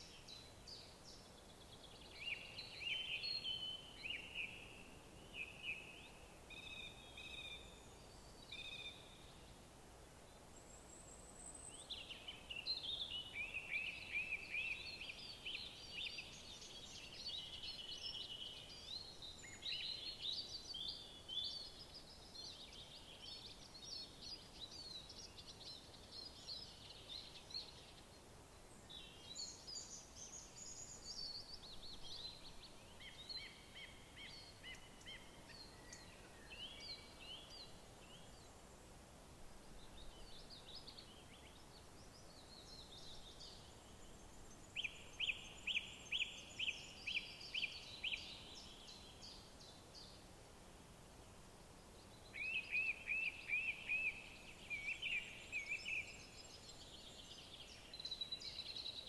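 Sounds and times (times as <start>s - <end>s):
songbirds chirping and trilling: 0.0s - 9.5s, 10.4s - 38.9s, 39.7s - 50.3s, 51.3s - 59.0s
faint outdoor hiss: 0.0s - 59.0s.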